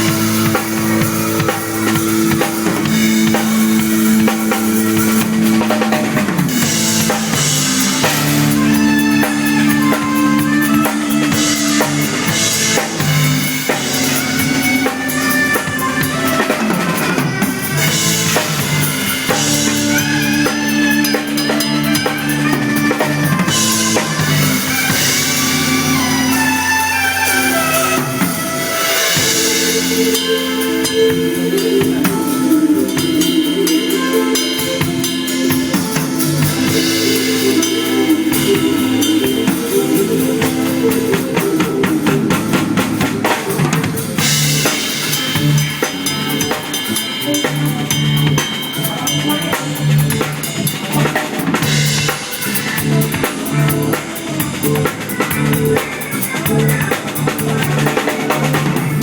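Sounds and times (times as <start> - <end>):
drum kit groove: 0.0 - 59.0
instrumental track sustained tones: 0.0 - 59.0.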